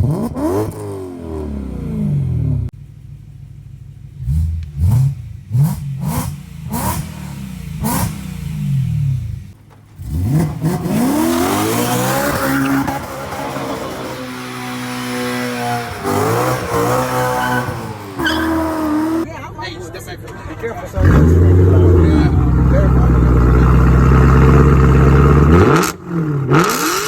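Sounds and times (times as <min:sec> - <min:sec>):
car engine revving hard: 0:00.0 - 0:02.6, 0:04.2 - 0:19.2, 0:21.0 - 0:27.0.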